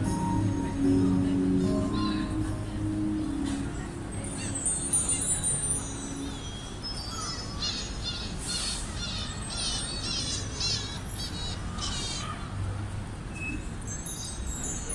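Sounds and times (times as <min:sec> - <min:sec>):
crowd and city noise: 0:00.0 - 0:14.9.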